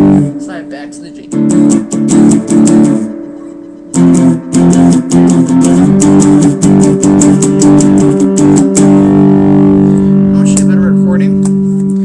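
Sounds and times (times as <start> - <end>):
guitar strumming power chords: 0.0 - 12.0.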